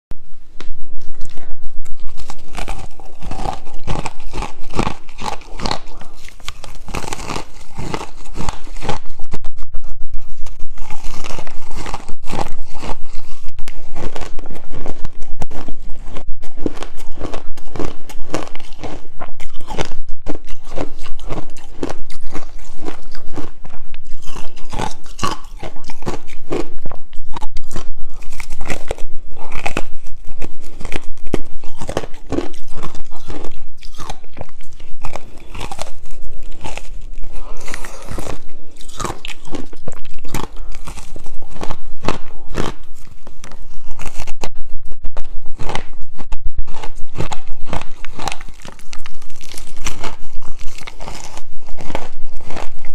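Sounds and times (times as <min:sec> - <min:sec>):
ice being chewed: 0:01.0 - 0:44.6, 0:45.2 - 0:52.9.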